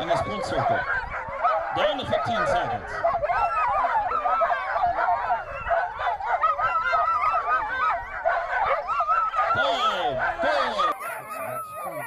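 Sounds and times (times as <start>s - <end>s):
dogs yelping and howling: 0.0s - 12.0s.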